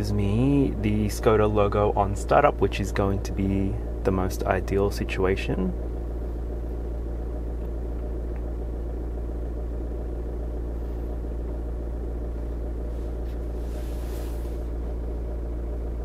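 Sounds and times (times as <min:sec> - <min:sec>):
car engine idling inside cabin: 0:00.0 - 0:16.0.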